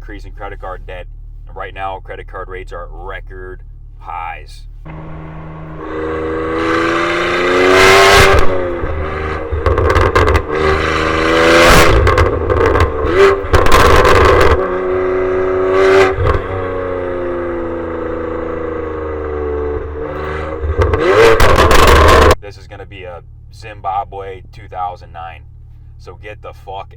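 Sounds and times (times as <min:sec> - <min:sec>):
car engine accelerating: 0:00.0 - 0:26.8.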